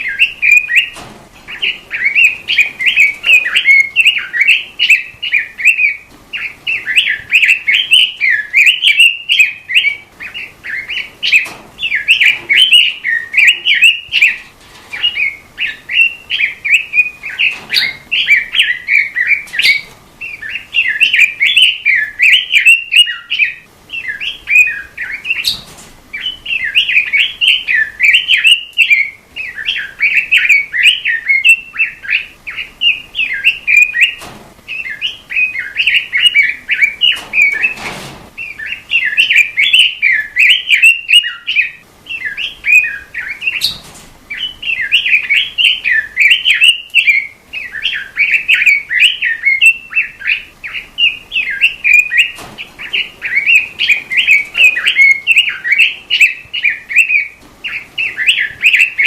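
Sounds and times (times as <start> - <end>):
robin singing: 0.0 - 37.8, 38.4 - 59.0.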